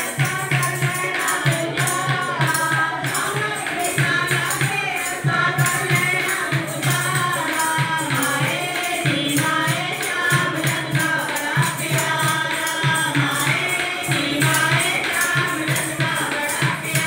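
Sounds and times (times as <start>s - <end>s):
drum beat: 0.0s - 17.0s
group singing: 0.0s - 17.0s
tambourine jingles: 0.0s - 17.0s.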